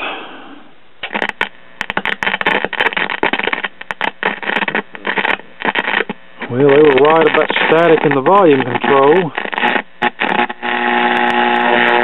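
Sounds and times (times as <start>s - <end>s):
radio crackle and static: 0.0s - 12.0s
scratchy volume control turning: 1.0s - 12.0s.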